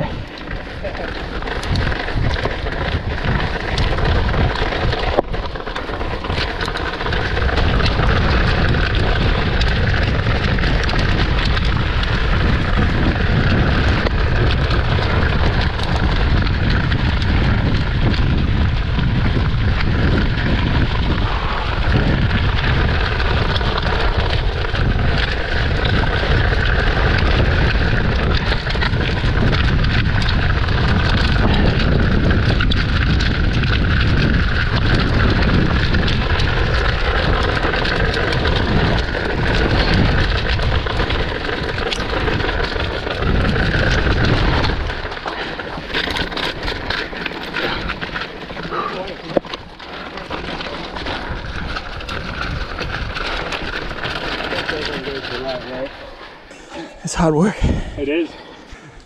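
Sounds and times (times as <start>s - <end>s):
bike rattling on dirt: 0.0s - 59.0s
wind buffeting microphone: 0.0s - 59.0s.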